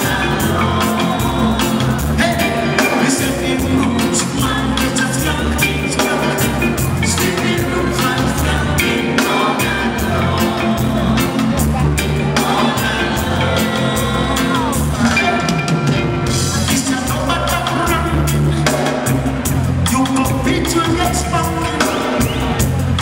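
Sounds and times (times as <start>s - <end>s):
backing singers: 0.0s - 23.0s
bass guitar: 0.0s - 23.0s
drum kit steady beat: 0.0s - 23.0s
person singing lead vocals: 0.0s - 23.0s.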